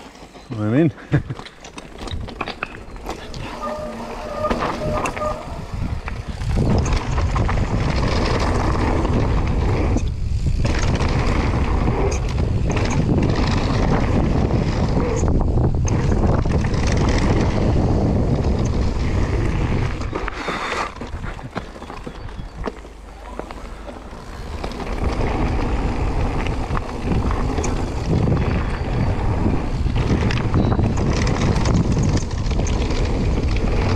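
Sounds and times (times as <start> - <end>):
bike tyres rolling on gravel: 0.0 - 33.9
wind buffeting microphone: 1.9 - 33.9.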